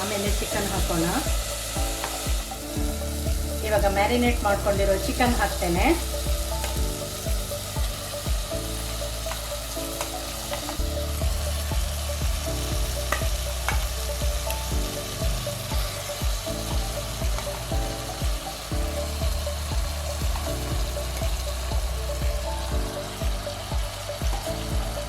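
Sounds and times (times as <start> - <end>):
chicken sizzling in a pot: 0.0 - 25.0.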